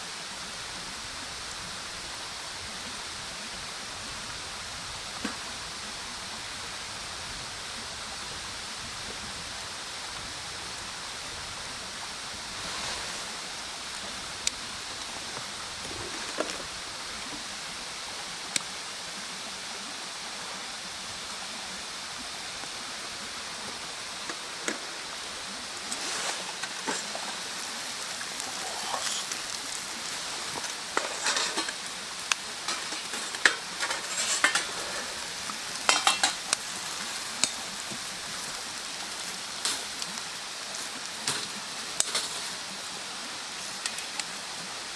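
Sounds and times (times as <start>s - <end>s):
wood fire crackling: 8.0s - 20.3s, 21.0s - 44.9s.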